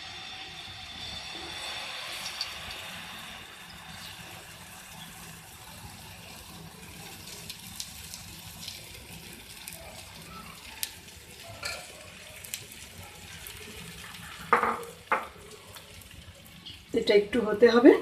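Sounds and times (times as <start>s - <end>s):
batter sizzling in a frying pan: 0.0s - 18.0s.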